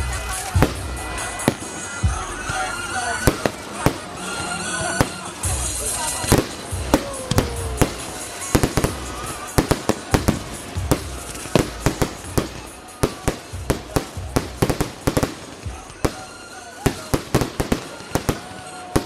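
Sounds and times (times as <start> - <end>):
background music: 0.0 - 19.0
fireworks bangs: 0.0 - 19.0.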